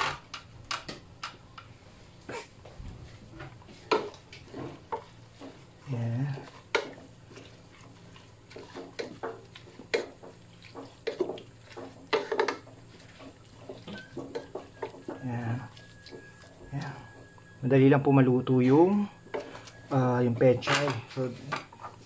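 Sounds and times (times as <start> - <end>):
utensil stirring food in a pan: 3.1 - 17.8, 18.5 - 22.0.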